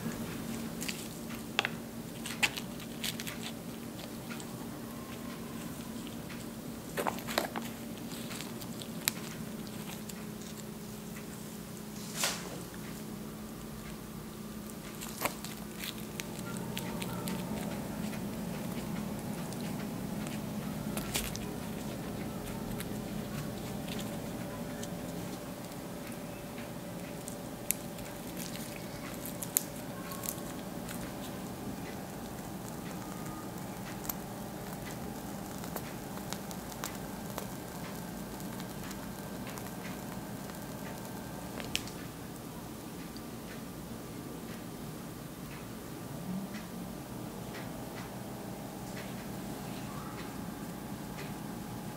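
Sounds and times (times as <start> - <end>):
piping bag squishing and crinkling: 0.0 - 42.5
steady low hum: 0.0 - 51.9.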